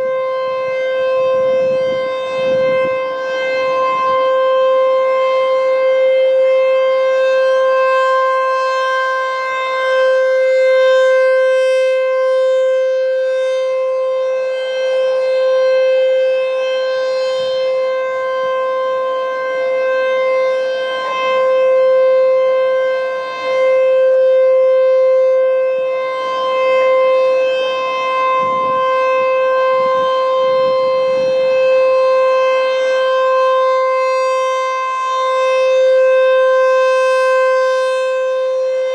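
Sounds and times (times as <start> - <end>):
siren echoes off buildings: 0.0 - 38.9
warning siren steady tone: 0.0 - 38.9.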